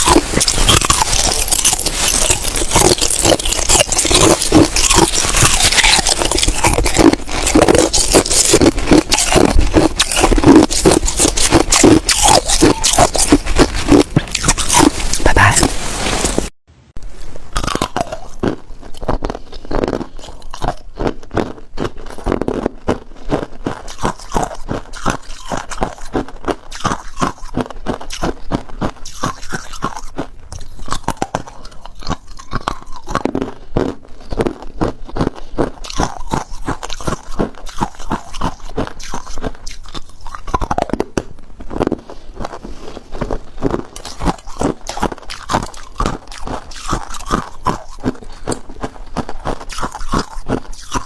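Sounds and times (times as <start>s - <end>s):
person chewing ice crunches: 0.0s - 16.5s, 17.5s - 51.0s.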